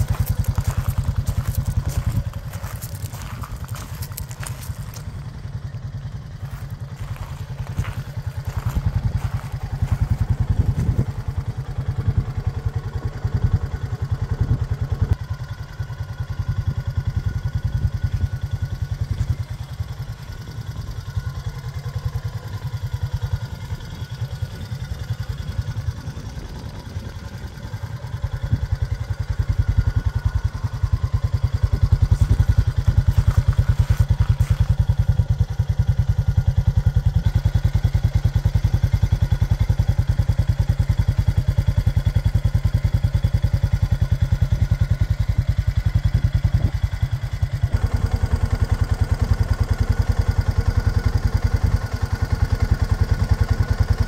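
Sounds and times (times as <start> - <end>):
atv engine idling: 0.0 - 54.0.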